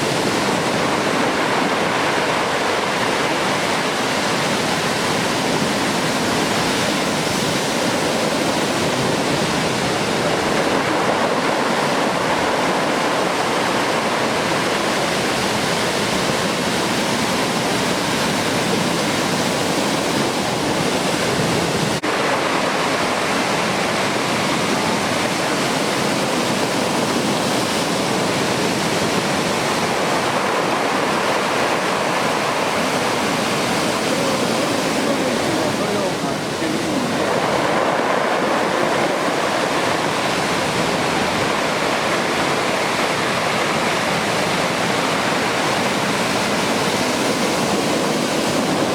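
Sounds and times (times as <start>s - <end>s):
heavy ocean surf breaking: 0.0s - 48.9s.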